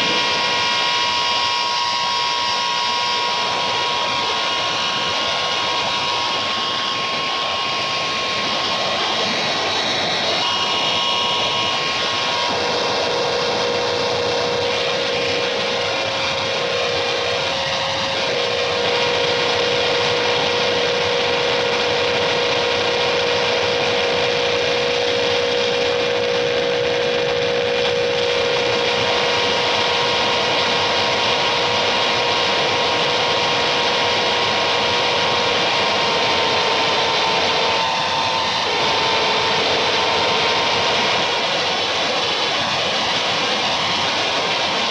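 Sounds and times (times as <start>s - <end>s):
harsh noise wall: 0.0s - 44.9s
steady hums: 0.0s - 44.9s.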